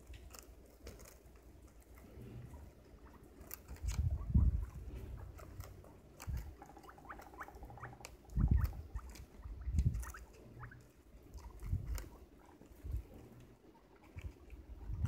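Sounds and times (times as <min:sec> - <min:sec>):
guinea pig squeaks: 0:00.0 - 0:15.0
guinea pigs chewing cauliflower: 0:00.0 - 0:15.0.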